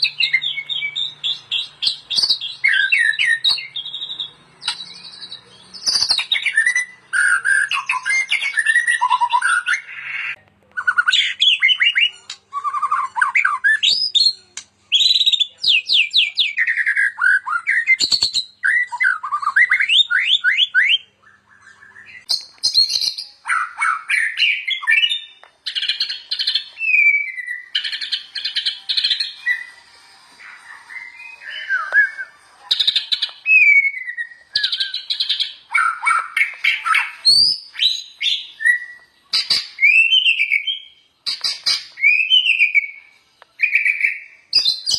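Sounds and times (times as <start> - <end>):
songbird whistling and trilling: 0.0 - 29.8, 30.4 - 44.9.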